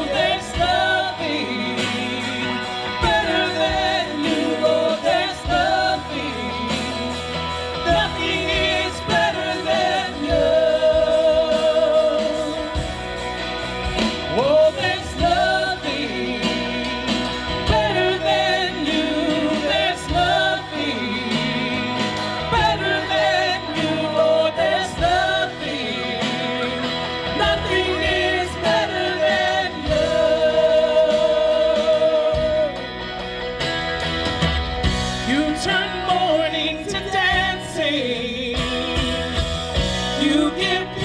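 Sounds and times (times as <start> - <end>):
gospel singing with band: 0.0 - 41.0.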